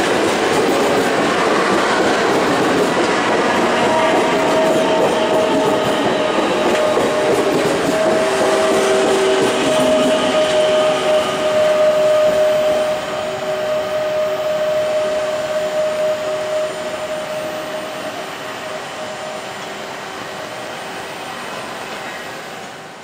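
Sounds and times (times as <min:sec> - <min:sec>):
electric train two-tone whine: 0:00.0 - 0:23.0
train rumble: 0:00.0 - 0:23.0.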